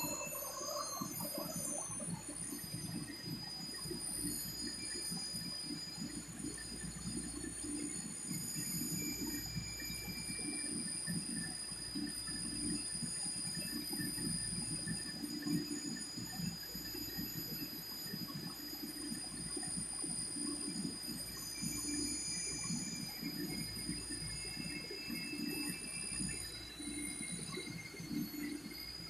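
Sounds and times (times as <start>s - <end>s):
high-pitched grinder whine: 0.0s - 29.0s.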